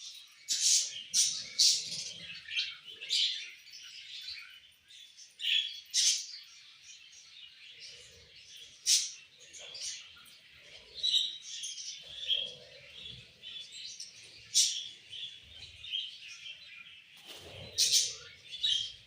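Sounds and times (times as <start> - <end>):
parrots chirping and chattering: 0.0 - 19.0.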